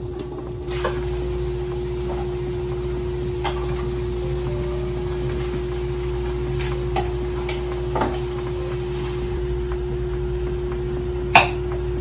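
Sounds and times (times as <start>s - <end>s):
steady low hum: 1.1s - 12.0s.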